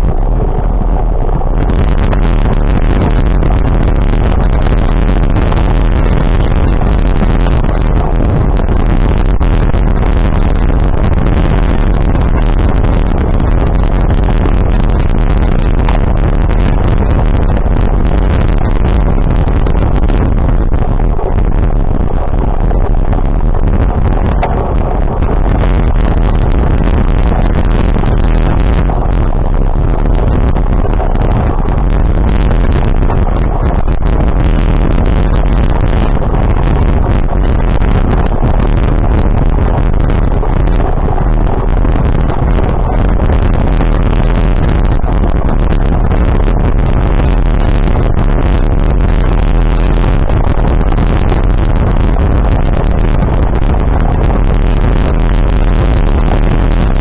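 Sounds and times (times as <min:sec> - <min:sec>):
vehicle rumble from on board: 0:00.0 - 0:57.0
wind buffeting microphone: 0:00.0 - 0:57.0.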